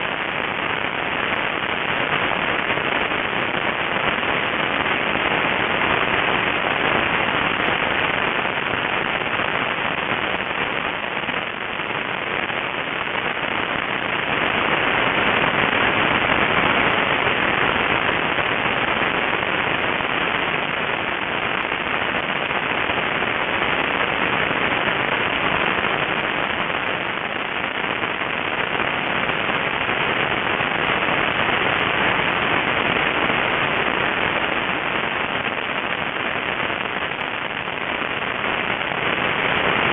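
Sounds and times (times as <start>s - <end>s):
crackling air rush on microphone: 0.0s - 39.9s.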